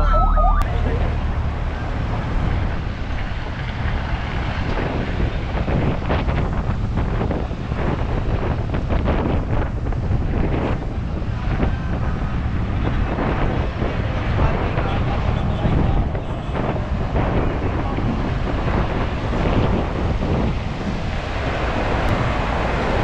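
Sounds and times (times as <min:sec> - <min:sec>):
wind buffeting microphone: 0:02.3 - 0:23.0.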